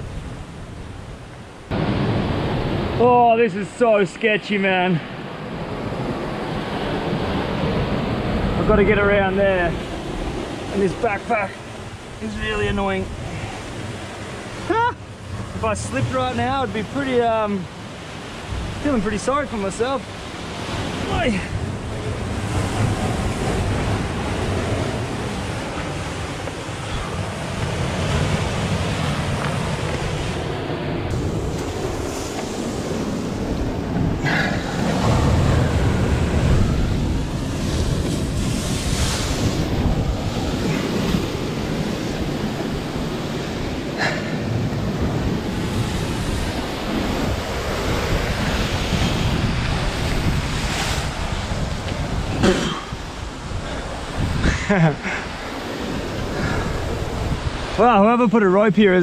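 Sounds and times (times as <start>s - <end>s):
wind buffeting microphone: 5.1s - 57.9s
surf breaking on rocks: 5.7s - 59.0s.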